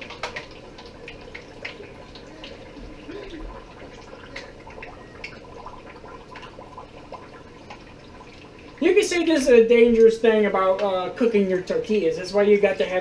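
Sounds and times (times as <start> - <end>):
oil bubbling and crackling: 0.0 - 13.0.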